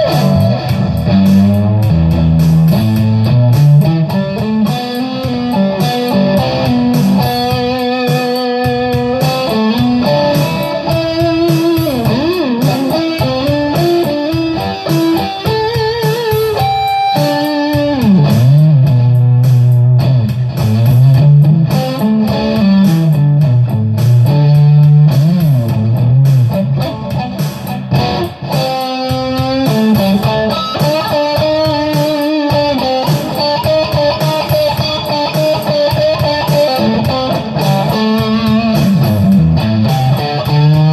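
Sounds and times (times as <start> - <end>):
electric guitar lead lines: 0.0 - 40.9.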